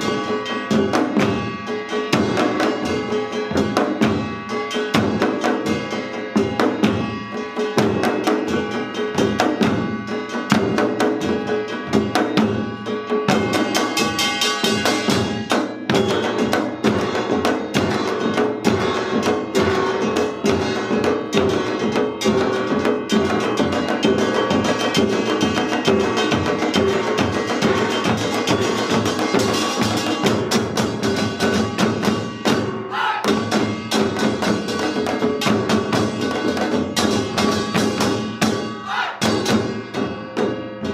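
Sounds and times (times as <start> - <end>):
small gong clanging: 0.0 - 40.9
hand drums fast strokes: 2.2 - 40.6.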